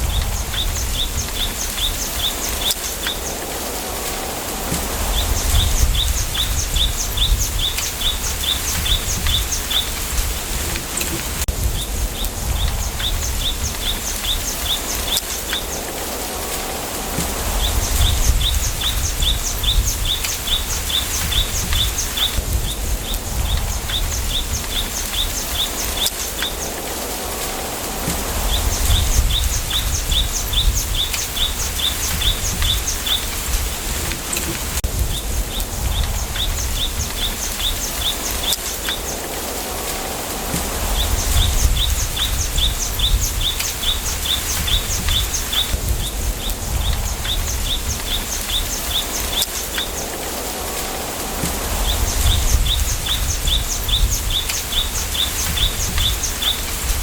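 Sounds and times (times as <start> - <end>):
bamboo leaves rustling: 0.0 - 57.0
low wind rumble: 0.0 - 57.0.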